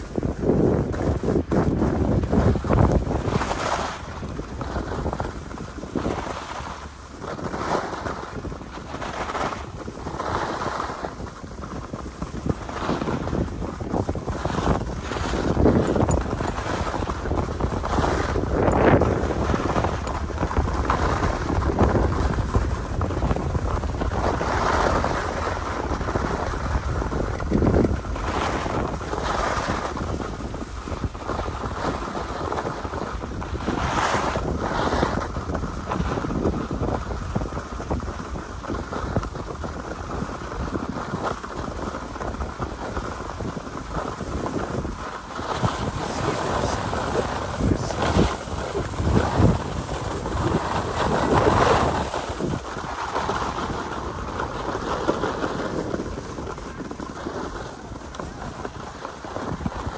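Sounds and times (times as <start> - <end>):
skis scraping over snow: 0.0 - 59.9
wind buffeting microphone: 0.0 - 59.9.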